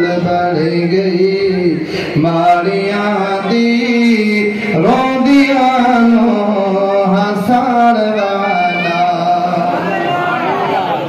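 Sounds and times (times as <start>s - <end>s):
man chanting: 0.0s - 9.9s.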